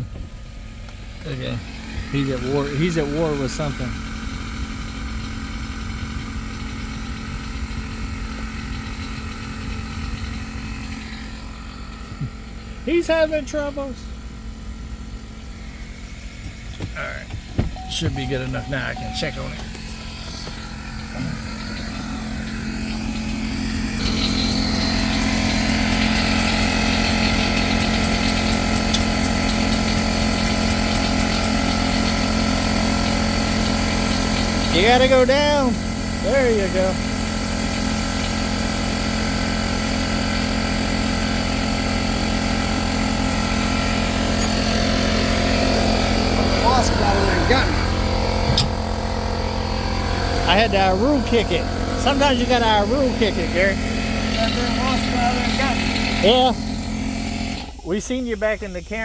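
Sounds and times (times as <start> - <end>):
machine motor running: 0.0 - 59.0
vehicle engine idling: 0.0 - 59.0.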